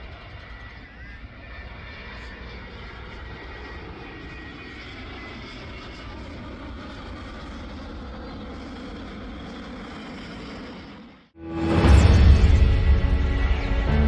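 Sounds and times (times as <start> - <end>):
jet airliner engines hissing: 0.0 - 14.0.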